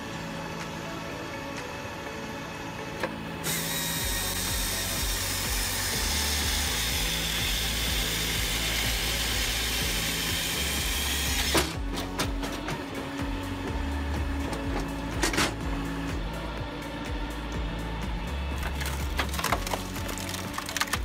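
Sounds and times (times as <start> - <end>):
powered machine running loudly: 0.0 - 21.0.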